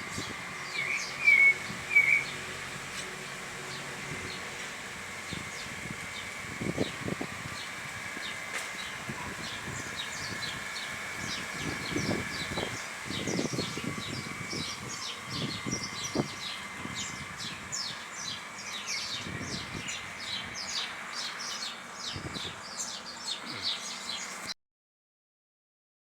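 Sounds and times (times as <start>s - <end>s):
small birds chirping: 0.0s - 4.6s, 5.2s - 24.6s.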